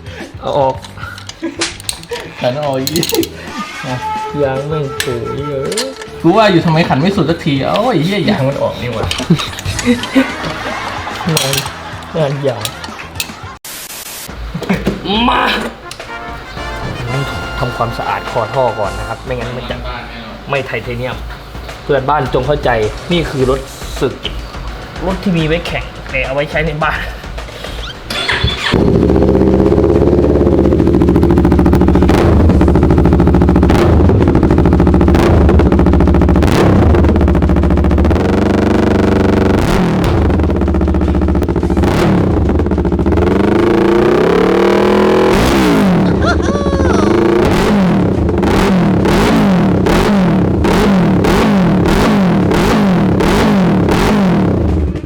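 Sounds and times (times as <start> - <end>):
motorcycle engine revving: 0.8 - 3.5, 5.0 - 13.6, 15.8 - 55.0.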